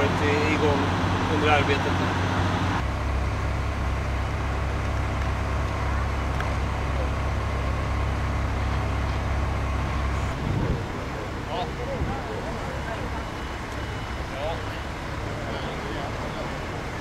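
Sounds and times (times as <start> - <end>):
low drone of engines: 0.0 - 17.0.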